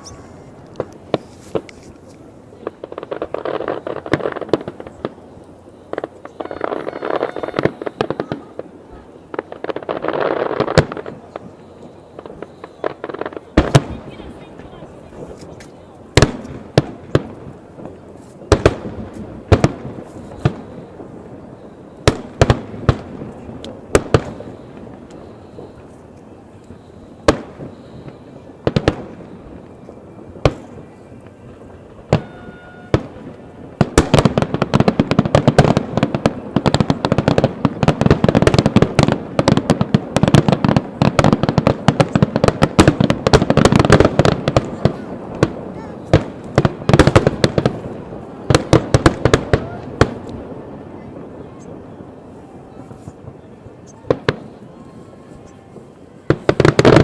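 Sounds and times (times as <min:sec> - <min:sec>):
fireworks booming with echo: 0:00.0 - 0:57.0
rapid fireworks crackling: 0:00.0 - 0:57.0.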